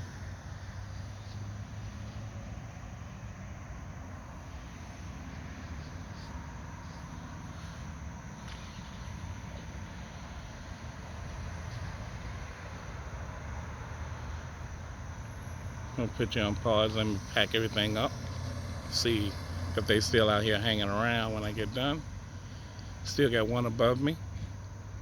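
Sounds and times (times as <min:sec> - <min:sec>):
outdoor background rumble: 0:00.0 - 0:25.0.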